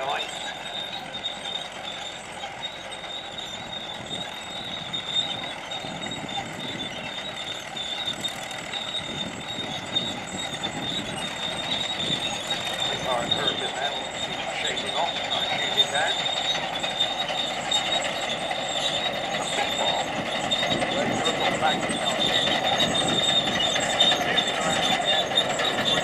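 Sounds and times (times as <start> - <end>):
propeller aircraft flying over: 0.0 - 26.0.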